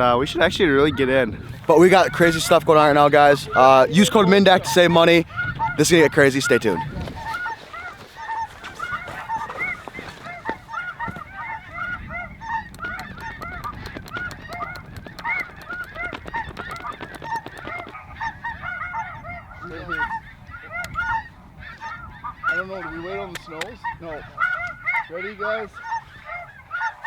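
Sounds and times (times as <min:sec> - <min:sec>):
geese honking: 0:00.9 - 0:27.0.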